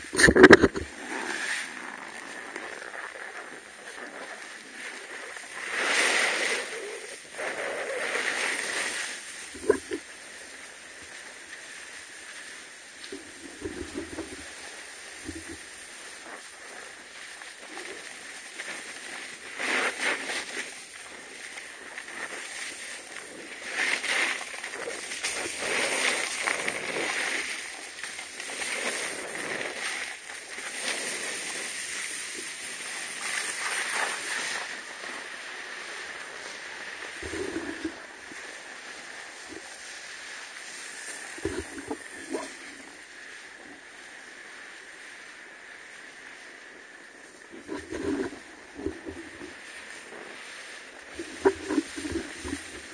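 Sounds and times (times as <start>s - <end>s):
skis scraping on packed snow: 0.0s - 52.9s
wind over microphone: 0.0s - 52.9s.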